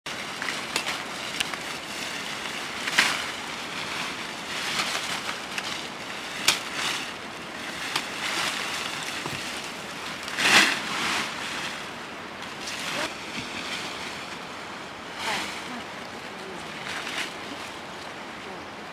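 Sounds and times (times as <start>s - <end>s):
branches cracking: 0.1s - 18.4s
branches rustling and swishing: 0.1s - 18.9s.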